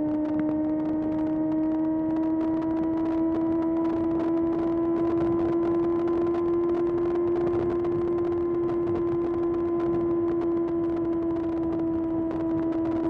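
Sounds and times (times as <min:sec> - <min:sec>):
motorcycle engine at high revs: 0:00.0 - 0:13.0
wind and road noise: 0:00.0 - 0:13.0.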